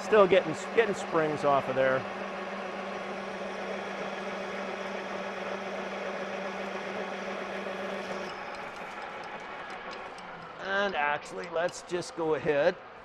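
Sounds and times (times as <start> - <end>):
lathe motor humming: 0.0 - 13.0.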